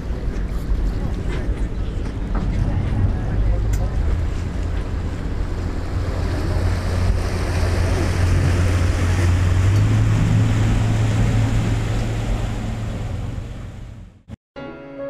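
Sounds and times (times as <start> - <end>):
water rushing past hull: 0.0 - 14.3
boat engine humming: 0.0 - 14.4.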